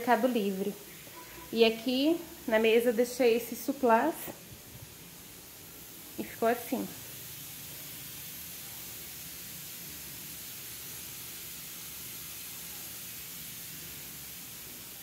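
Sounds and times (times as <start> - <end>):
steam hissing from pressure cooker: 0.0 - 15.0.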